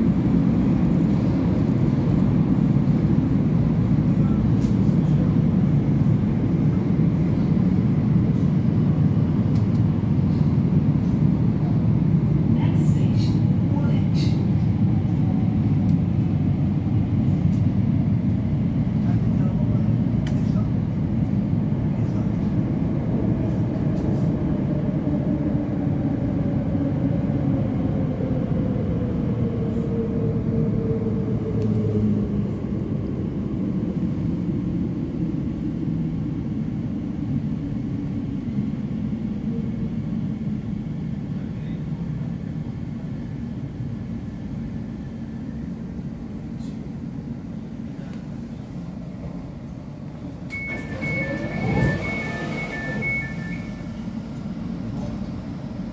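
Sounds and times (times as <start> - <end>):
train running rumble: 0.0 - 55.9.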